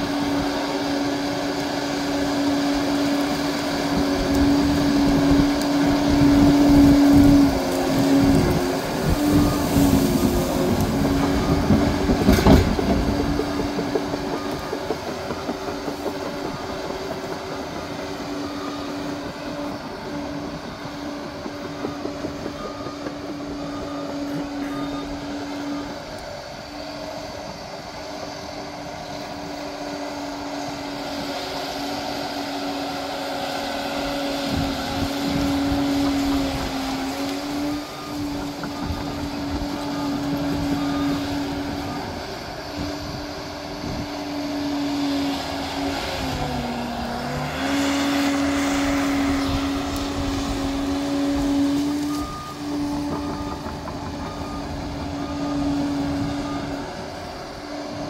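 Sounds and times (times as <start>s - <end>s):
diesel engine droning: 0.0s - 58.0s
steel tracks clanking: 0.0s - 58.0s.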